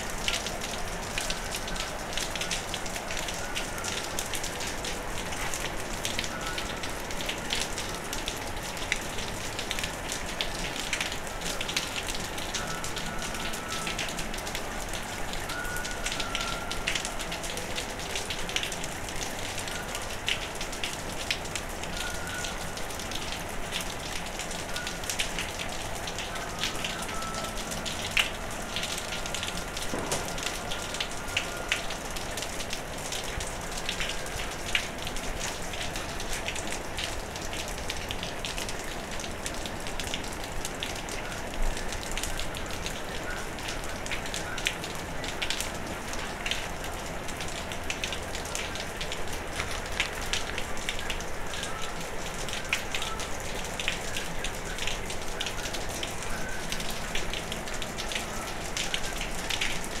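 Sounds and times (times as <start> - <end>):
raindrops ticking on surfaces: 0.0 - 60.0
steady rain falling: 0.0 - 60.0.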